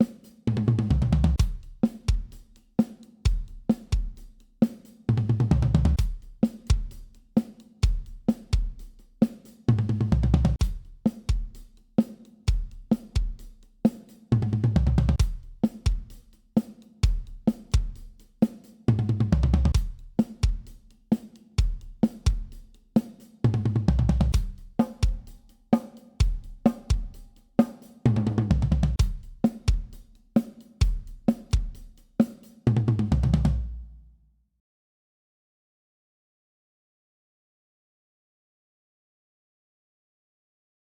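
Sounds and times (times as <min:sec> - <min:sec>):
damped acoustic drum kit grooves: 0:00.0 - 0:34.0.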